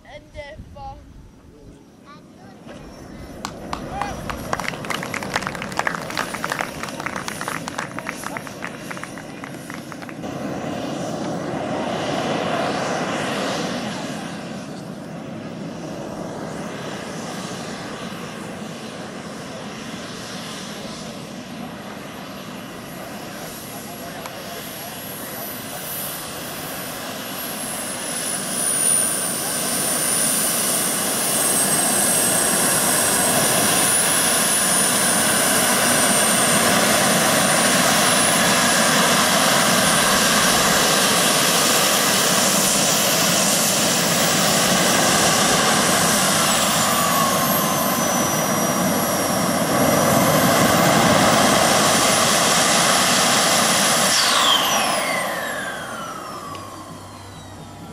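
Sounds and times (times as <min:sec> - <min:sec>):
jet turbines roaring with whine: 0:00.0 - 0:57.9.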